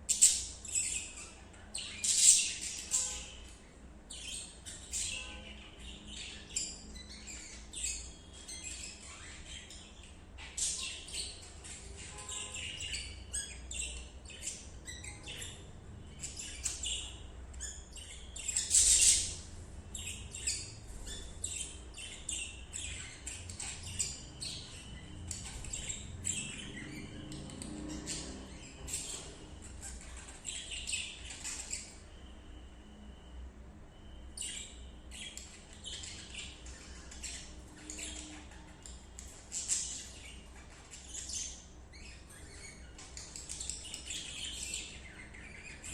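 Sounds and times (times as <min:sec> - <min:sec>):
budgerigars chirping: 0:00.0 - 0:33.2, 0:34.0 - 0:45.9.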